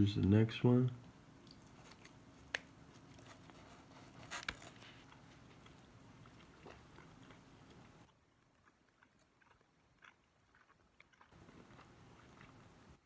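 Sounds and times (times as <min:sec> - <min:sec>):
faint chewing: 0:01.4 - 0:13.0.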